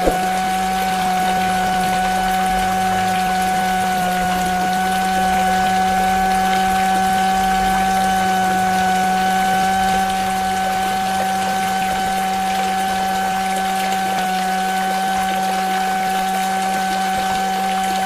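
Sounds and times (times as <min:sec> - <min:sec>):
small electric motor running: 0:00.0 - 0:18.0.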